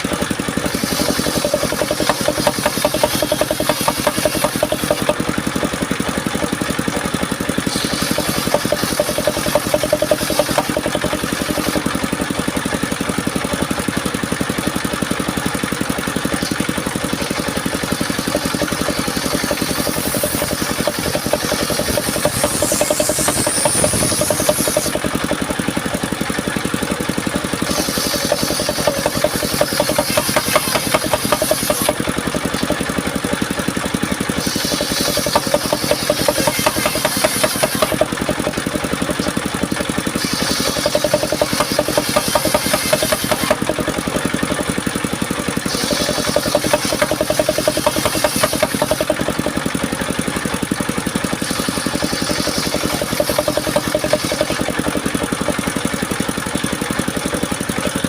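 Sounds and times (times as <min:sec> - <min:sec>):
circular saw rig engine: 0:00.0 - 0:58.0.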